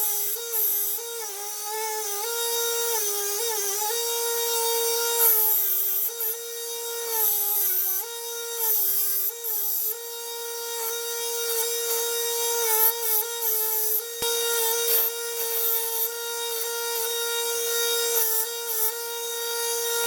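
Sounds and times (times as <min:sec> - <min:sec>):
electric grinder motor whine: 0:00.0 - 0:20.0.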